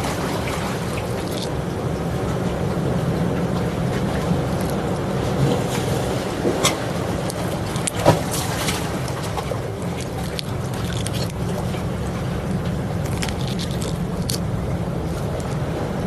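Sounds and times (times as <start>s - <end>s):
surf: 0.0s - 16.0s.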